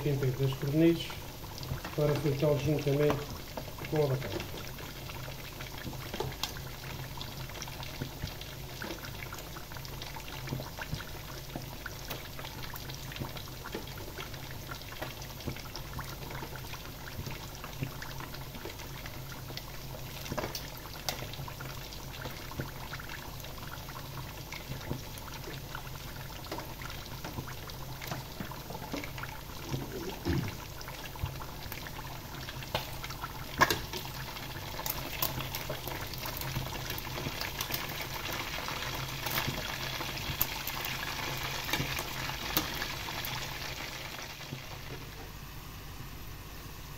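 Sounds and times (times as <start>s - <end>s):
oil bubbling and crackling: 0.0s - 46.9s.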